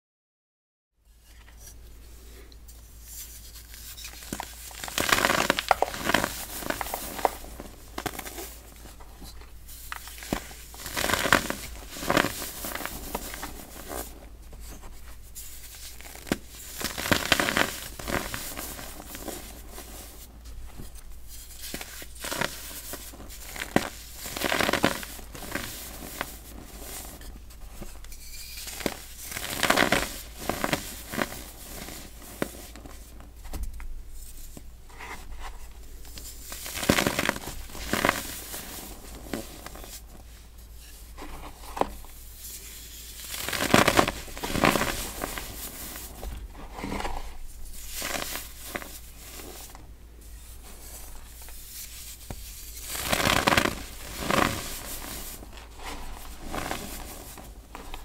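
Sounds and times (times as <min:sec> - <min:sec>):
baking soda crunching by hand: 0:03.3 - 0:08.9, 0:09.7 - 0:14.3, 0:15.5 - 0:20.3, 0:21.3 - 0:33.1, 0:35.9 - 0:40.1, 0:41.0 - 0:49.9, 0:50.5 - 0:58.0.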